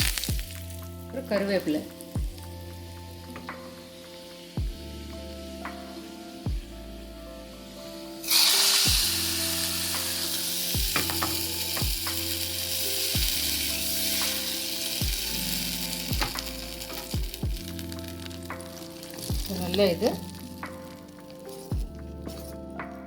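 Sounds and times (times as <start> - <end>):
hot oil sizzling: 0.0 - 22.3
music with low beat: 0.0 - 23.0.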